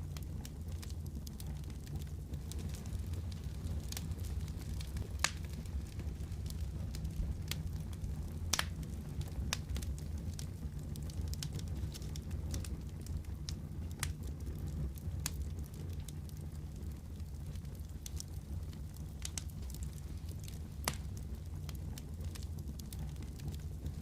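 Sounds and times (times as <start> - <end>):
low fire rumble: 0.0 - 24.0
wood fire crackling: 0.0 - 24.0.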